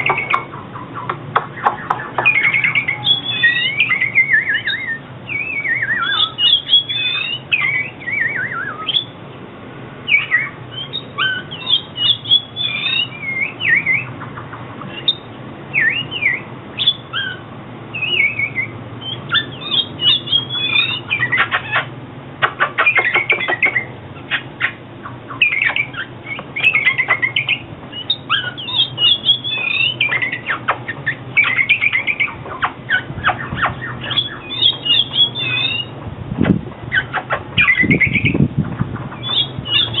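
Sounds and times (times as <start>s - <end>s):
bird singing whistled phrases: 0.0s - 0.5s, 1.6s - 9.2s, 10.1s - 14.2s, 14.9s - 21.9s, 22.7s - 35.9s, 36.9s - 38.4s, 39.1s - 40.0s.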